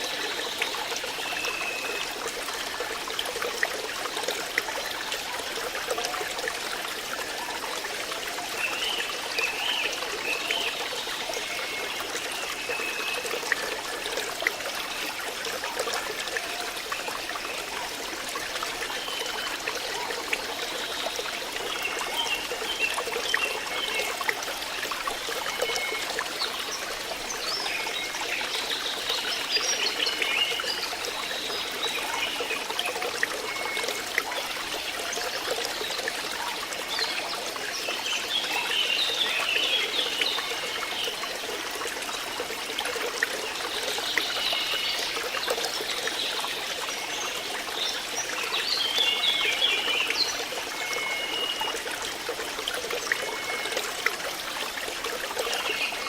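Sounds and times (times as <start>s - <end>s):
water trickling and burbling: 0.0s - 56.0s.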